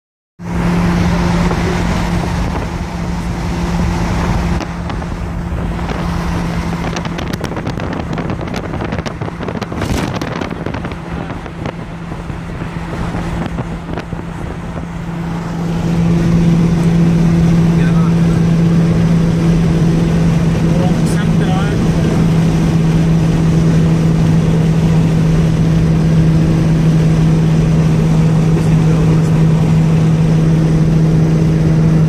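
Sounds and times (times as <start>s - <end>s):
low engine drone: 0.4s - 32.0s
road and wind noise: 0.4s - 32.0s.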